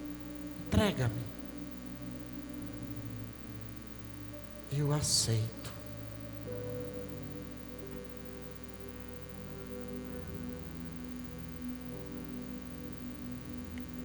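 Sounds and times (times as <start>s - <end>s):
soft music of held notes: 0.0s - 14.0s.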